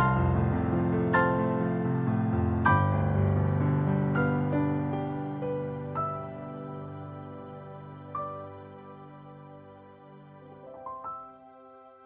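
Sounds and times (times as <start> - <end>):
soft slow melody music: 0.0 - 12.0.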